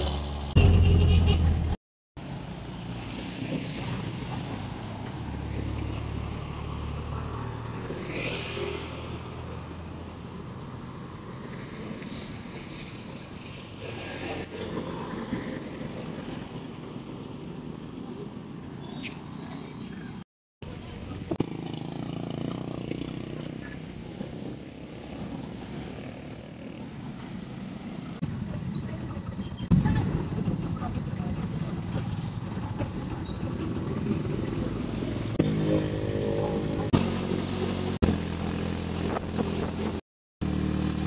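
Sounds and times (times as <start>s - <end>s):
traffic with vehicles passing: 0.0s - 41.0s
vehicle road noise: 0.0s - 41.0s.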